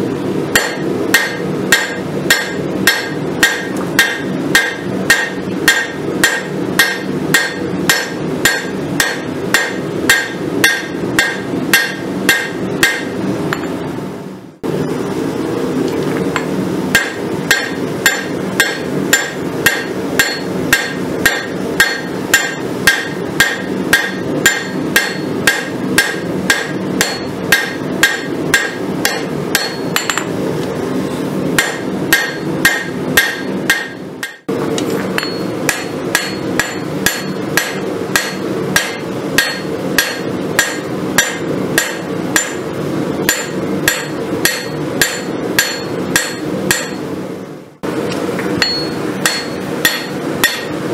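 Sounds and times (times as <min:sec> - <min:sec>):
hammer striking metal on anvil: 0:00.5 - 0:13.8, 0:16.9 - 0:30.3, 0:31.6 - 0:42.6, 0:43.2 - 0:47.1, 0:48.5 - 0:50.9.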